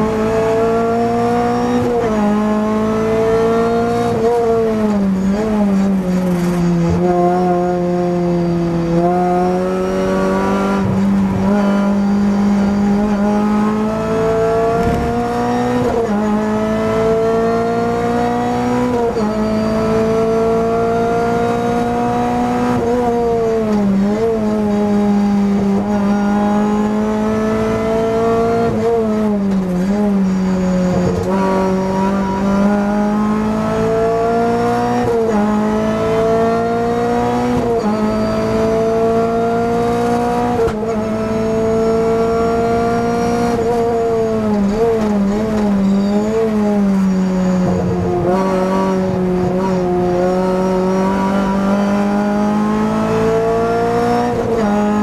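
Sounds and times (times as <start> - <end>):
race car engine at full load: 0.0 - 55.0.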